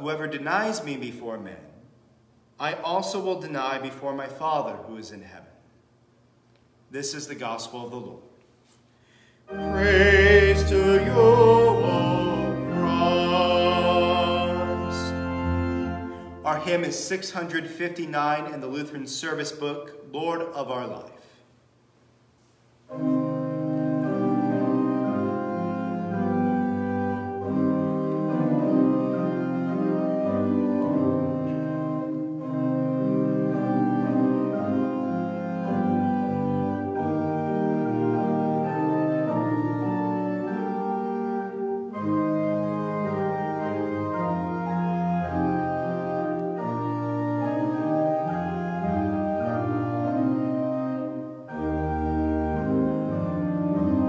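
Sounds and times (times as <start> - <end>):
organ playing a hymn: 0.0 - 1.7, 2.6 - 5.4, 7.0 - 8.1, 9.2 - 21.1, 22.9 - 54.0.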